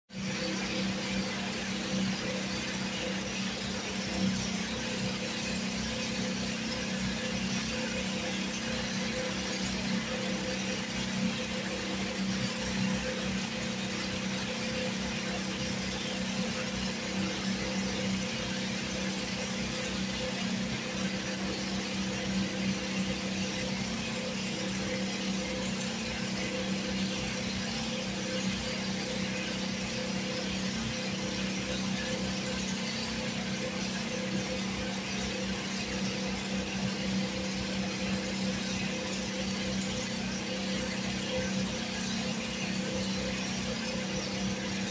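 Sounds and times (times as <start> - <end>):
low hum of generators: 0.2 - 44.9.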